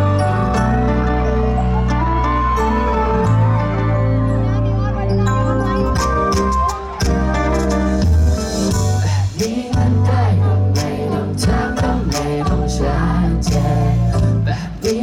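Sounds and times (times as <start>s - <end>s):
pop song through sound system: 0.0s - 15.0s.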